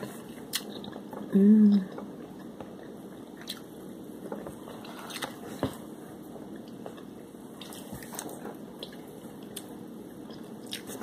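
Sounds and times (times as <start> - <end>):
person chewing crunchy fried food: 0.0 - 1.3, 1.9 - 11.0.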